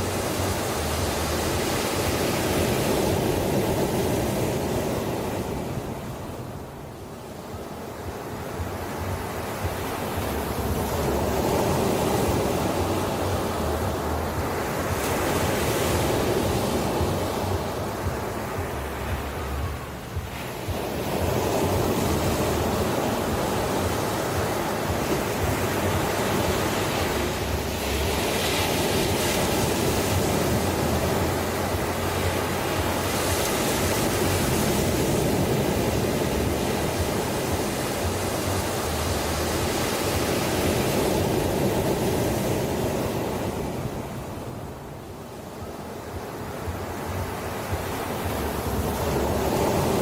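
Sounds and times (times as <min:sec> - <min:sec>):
ocean surf breaking: 0:00.0 - 0:50.0.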